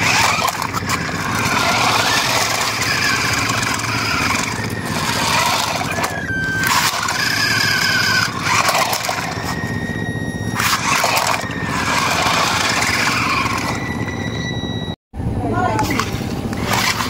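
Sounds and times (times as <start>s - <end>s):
toy car electric motor whining: 0.0s - 15.0s, 16.5s - 17.0s.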